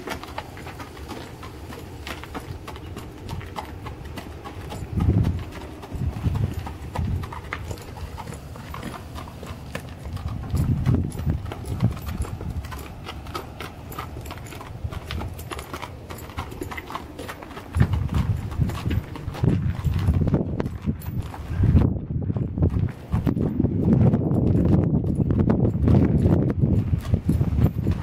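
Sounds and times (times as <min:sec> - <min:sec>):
hooves clopping on gravel: 0:00.0 - 0:28.0.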